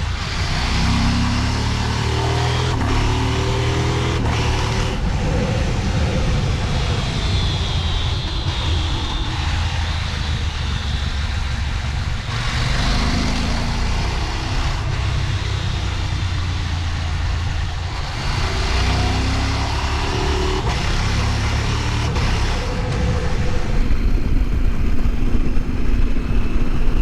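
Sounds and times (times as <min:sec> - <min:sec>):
motorcycle engine accelerating: 0:00.0 - 0:27.0
wind and road noise: 0:00.0 - 0:27.0.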